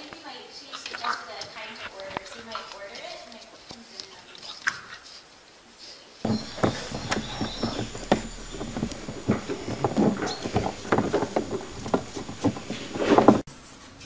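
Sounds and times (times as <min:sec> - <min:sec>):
puppies squeaking and grunting: 0:00.6 - 0:05.5, 0:06.2 - 0:13.0.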